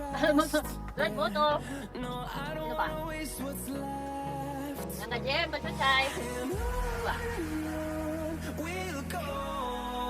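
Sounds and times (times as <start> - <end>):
slow melody with low bass: 0.0 - 10.0.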